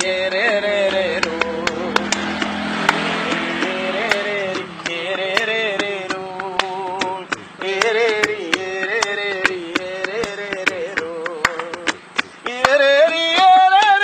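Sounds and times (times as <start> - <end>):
man singing folk song: 0.0 - 2.4, 3.3 - 14.0.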